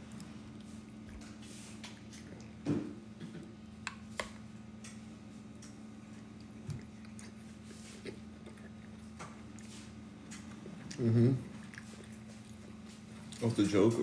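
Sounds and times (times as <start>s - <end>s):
soft chewing: 0.0s - 14.0s
steady low hum: 0.0s - 14.0s.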